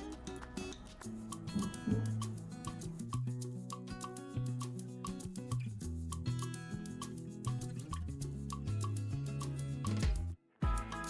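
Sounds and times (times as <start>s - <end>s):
latin background music: 0.0s - 11.0s.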